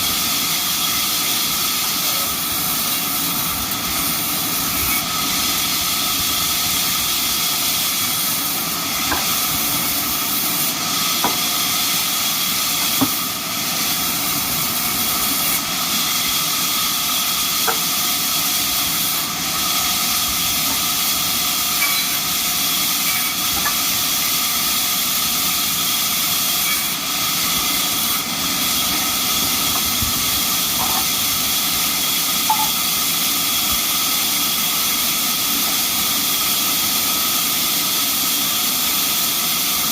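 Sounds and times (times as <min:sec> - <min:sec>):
band sawmill hissing and whining: 0:00.0 - 0:39.9.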